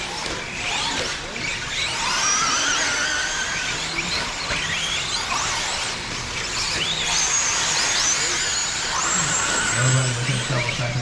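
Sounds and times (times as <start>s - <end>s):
electric toy car motors whining: 0.0s - 11.0s.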